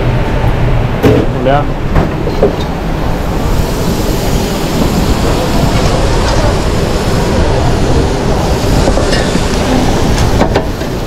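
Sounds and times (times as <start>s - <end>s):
gas burners running: 0.0s - 11.0s
ventilation hood roaring: 0.0s - 11.0s.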